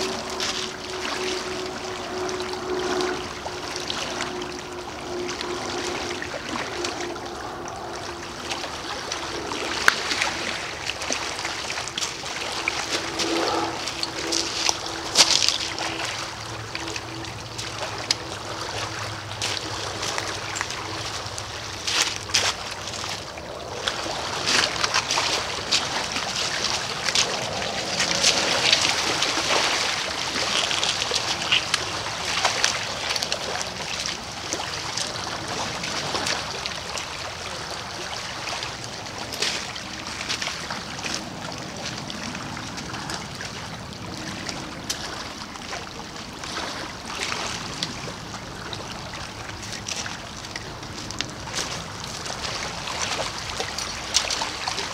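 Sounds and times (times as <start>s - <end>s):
faint steady hum: 0.0s - 54.9s
small waves lapping on pebbles: 0.0s - 54.9s.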